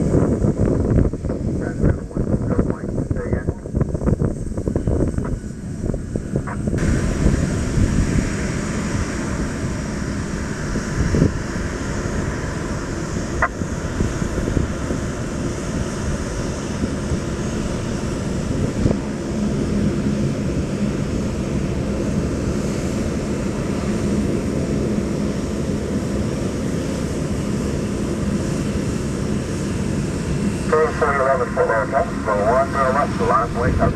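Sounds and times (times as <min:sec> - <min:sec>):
distant jet engines rumbling: 0:00.0 - 0:33.9
wind buffeting microphone: 0:00.0 - 0:33.9.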